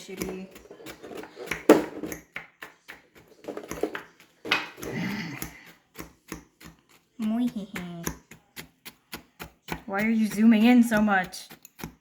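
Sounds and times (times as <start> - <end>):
fork scraping ceramic mug: 0.0 - 12.0.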